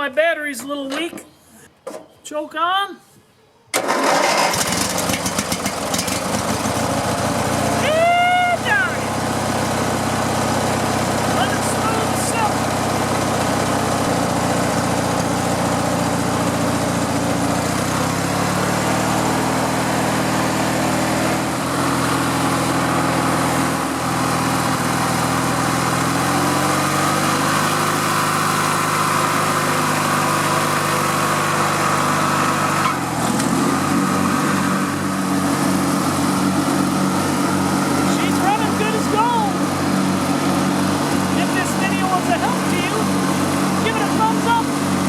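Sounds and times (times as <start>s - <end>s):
riding lawn mower engine: 3.7s - 45.0s.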